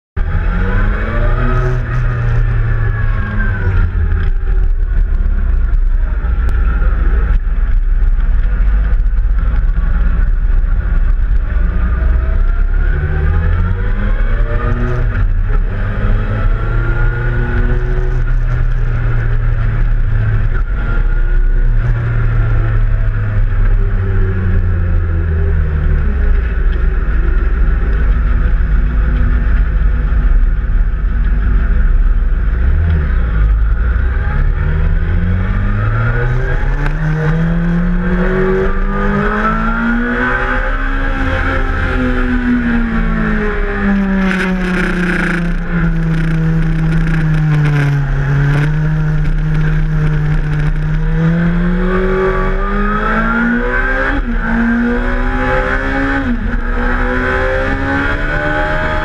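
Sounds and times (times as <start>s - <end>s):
motorcycle engine revving: 0.2s - 59.0s.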